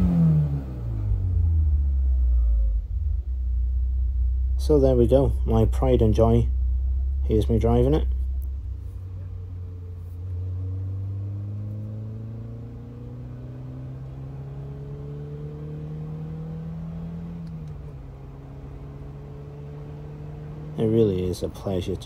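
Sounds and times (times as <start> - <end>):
car engine from inside cabin: 0.0 - 22.0.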